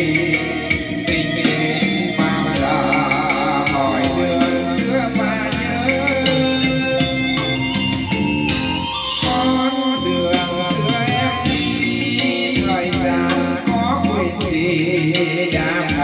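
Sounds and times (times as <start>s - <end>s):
person singing with vibrato: 0.0s - 7.9s, 9.0s - 16.0s
instrumental pop backing with beat: 0.0s - 16.0s.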